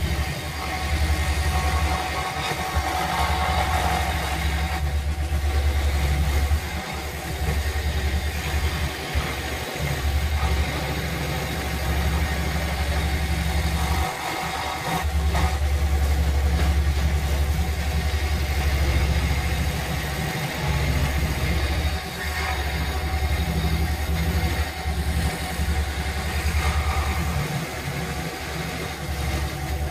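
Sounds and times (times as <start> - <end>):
scroll saw cutting wood: 0.0 - 29.9.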